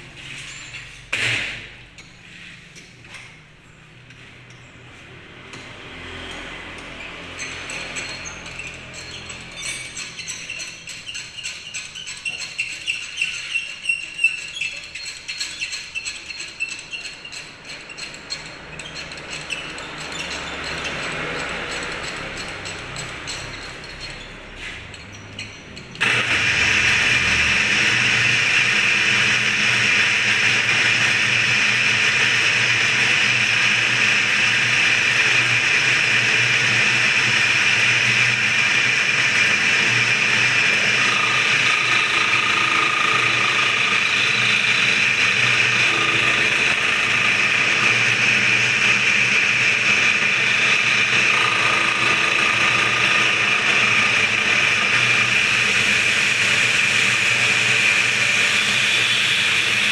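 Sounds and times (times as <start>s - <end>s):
milling machine running: 5.4s - 11.7s, 17.5s - 59.9s.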